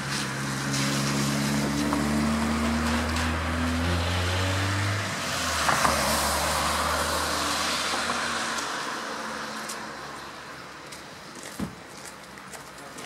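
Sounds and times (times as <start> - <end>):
vehicle engine hum passing: 0.0 - 11.0
steady traffic noise: 0.0 - 13.0.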